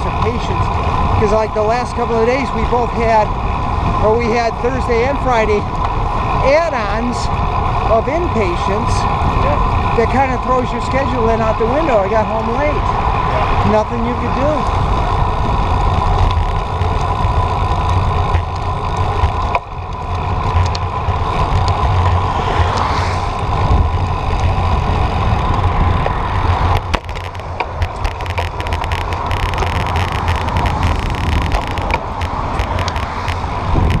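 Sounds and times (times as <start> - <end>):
road and wind noise: 0.0 - 34.0
vehicle engine drone: 0.0 - 34.0.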